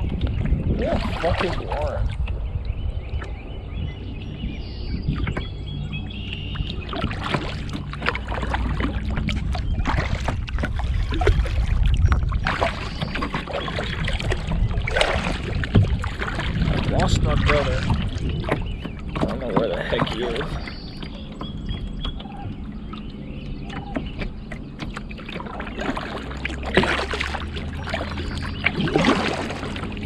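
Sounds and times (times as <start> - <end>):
steady low rumble: 0.0 - 30.0
water splashes and hull knocks: 0.0 - 30.0.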